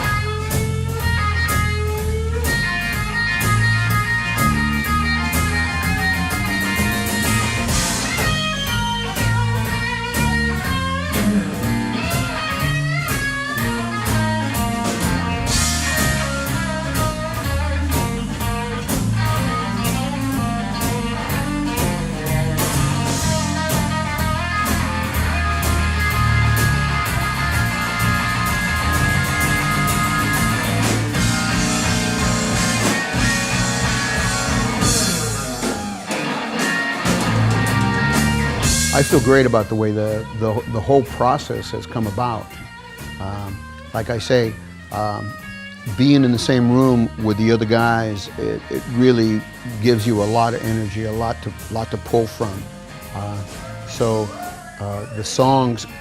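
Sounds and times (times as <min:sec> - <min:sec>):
bass guitar: 0:00.0 - 0:56.0
lead guitar with bent notes: 0:00.0 - 0:56.0
steady drum beat: 0:00.0 - 0:56.0.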